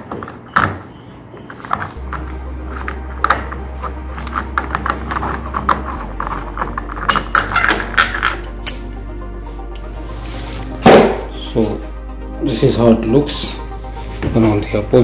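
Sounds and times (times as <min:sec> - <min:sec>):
background music with bass: 0:02.0 - 0:15.0.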